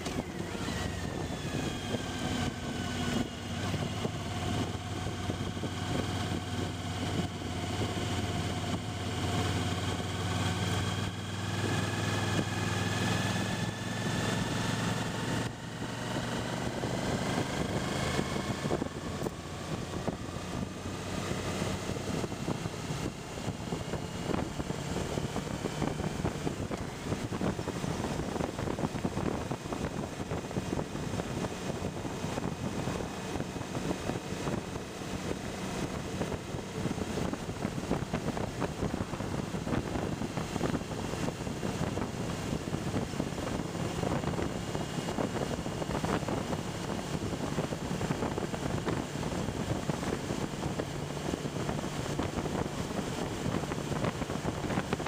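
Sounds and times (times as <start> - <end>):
motorcycle engine hum: 0.0 - 55.0
wind buffeting microphone: 0.0 - 55.0.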